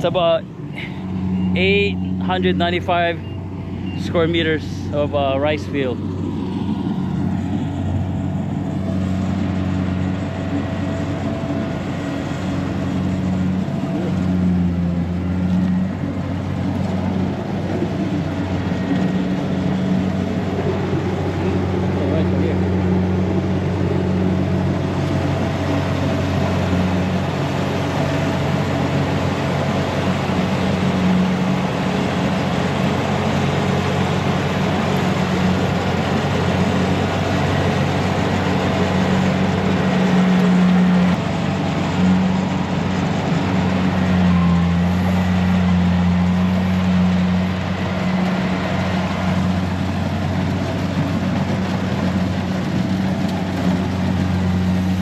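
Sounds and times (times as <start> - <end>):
harvester engine droning: 0.0 - 55.0.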